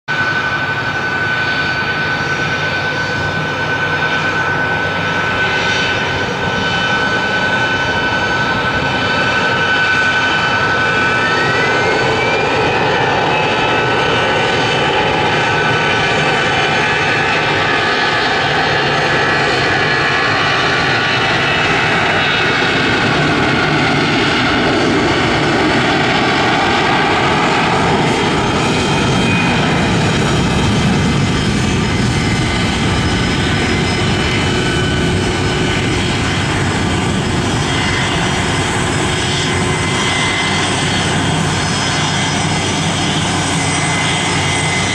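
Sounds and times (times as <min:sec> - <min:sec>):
jet engines taxiing: 0:00.1 - 0:44.9.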